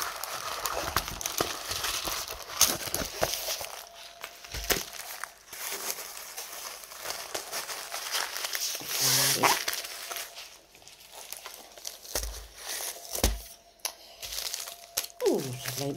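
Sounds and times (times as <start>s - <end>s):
paper rustling: 0.0s - 15.9s
plastic bag crinkling: 0.0s - 15.9s.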